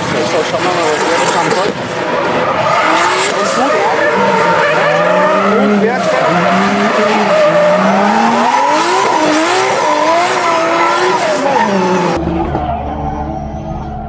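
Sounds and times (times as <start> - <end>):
car engine revving hard: 0.0 - 13.6
tyre squeal and skidding: 2.2 - 14.0.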